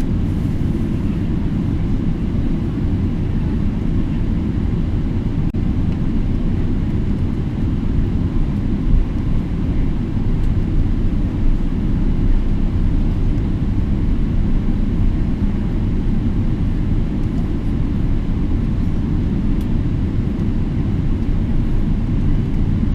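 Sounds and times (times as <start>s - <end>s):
jet engines rumbling: 0.0s - 22.9s.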